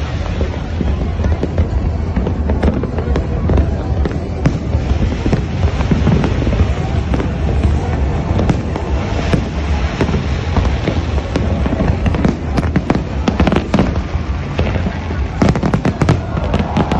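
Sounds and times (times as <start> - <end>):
firework cracks and pops: 0.0 - 16.9
fireworks rumble of bursts: 0.0 - 16.9.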